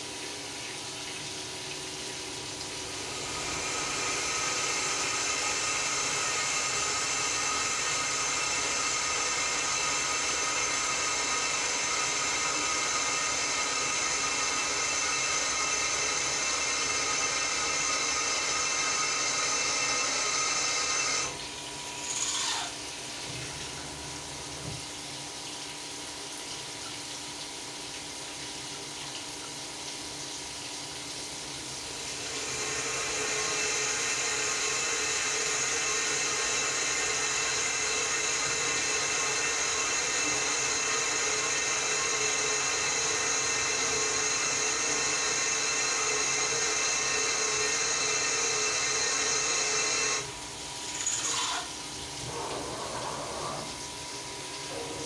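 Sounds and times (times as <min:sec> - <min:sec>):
coolant flowing: 0:00.0 - 0:55.0
milling machine running: 0:01.5 - 0:25.0, 0:31.6 - 0:55.0.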